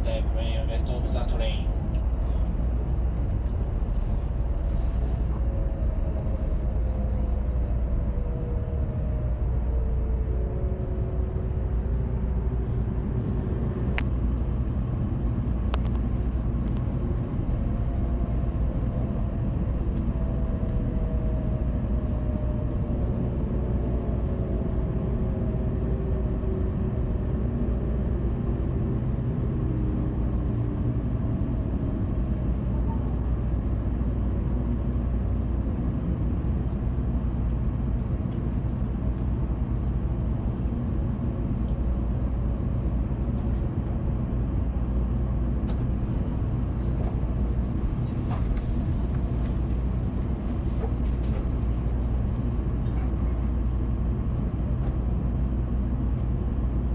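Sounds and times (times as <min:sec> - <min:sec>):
train running rumble: 0:00.0 - 0:56.9.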